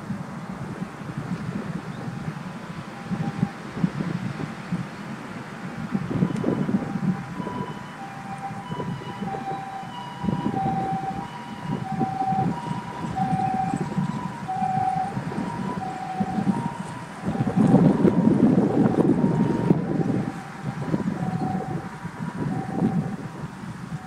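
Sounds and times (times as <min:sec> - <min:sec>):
low traffic rumble: 0:00.0 - 0:24.0
wind buffeting microphone: 0:00.0 - 0:24.0
two-tone siren: 0:01.9 - 0:04.1, 0:05.8 - 0:24.0.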